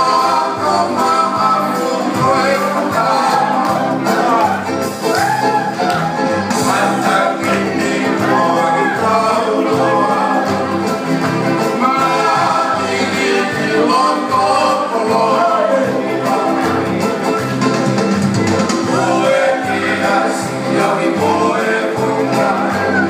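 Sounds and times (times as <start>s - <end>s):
dance song over loudspeakers: 0.0s - 23.0s.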